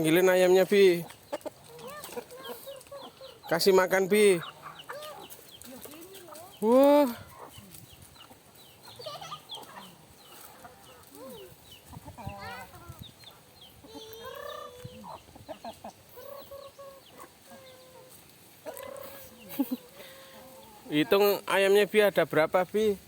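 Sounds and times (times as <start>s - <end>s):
chicks peeping: 0.0s - 23.0s
hens clucking: 0.0s - 23.0s.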